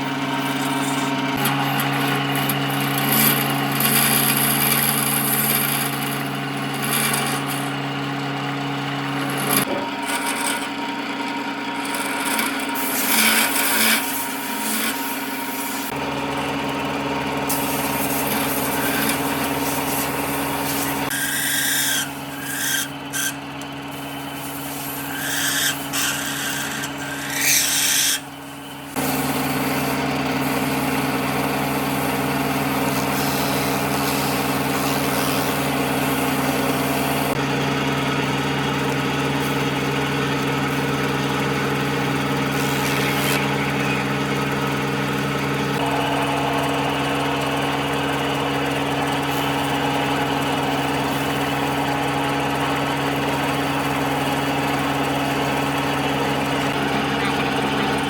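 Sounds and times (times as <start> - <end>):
power tool motor running: 0.0 - 58.0
short irregular working sounds: 0.0 - 58.0.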